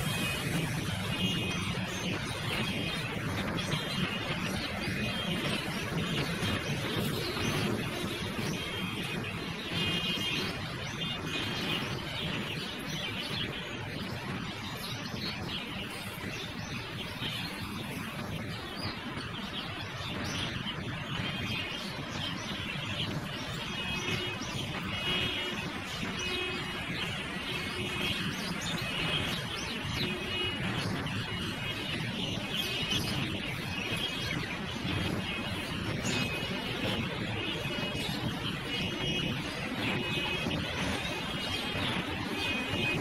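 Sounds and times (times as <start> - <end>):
bird chirping: 0.0 - 43.0
road traffic hum: 0.0 - 43.0.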